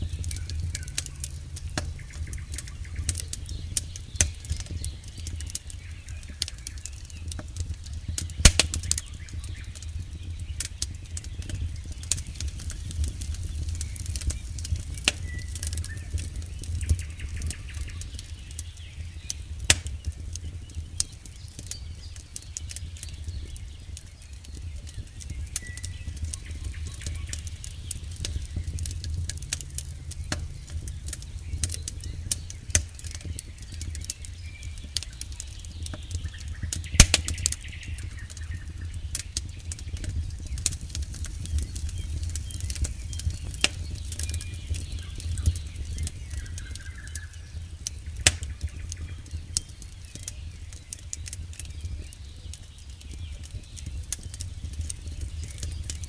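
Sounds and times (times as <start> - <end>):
campfire crackling and popping: 0.0 - 56.0
low fire rumble: 0.0 - 56.0.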